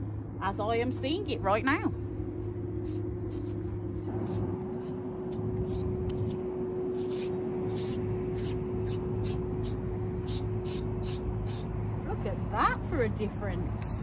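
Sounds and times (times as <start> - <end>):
steady low hum: 0.0 - 14.0
brush raking through horse coat: 2.4 - 13.6.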